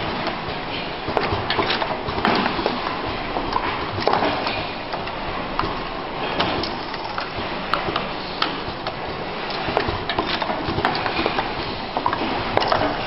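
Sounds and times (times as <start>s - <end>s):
steady machine background noise: 0.0s - 13.0s.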